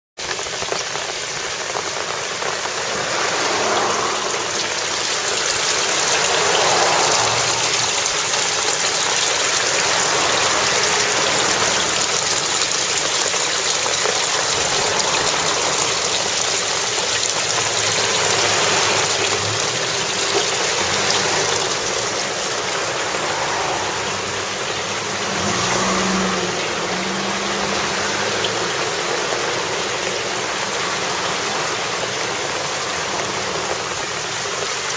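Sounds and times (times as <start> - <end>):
heavy rain: 0.2 - 34.9
runoff pouring into gutter: 0.2 - 34.9
vehicles passing on wet road: 0.2 - 34.9.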